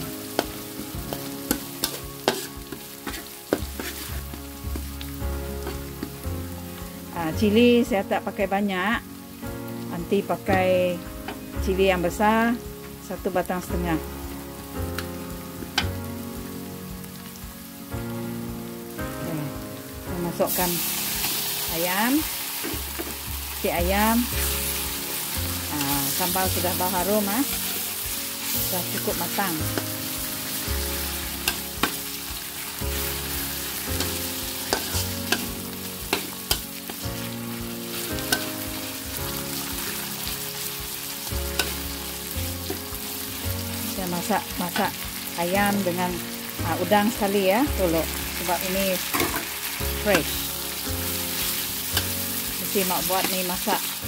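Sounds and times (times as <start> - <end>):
background music with held chords: 0.0 - 54.0
paste sizzling in hot oil: 0.0 - 54.0.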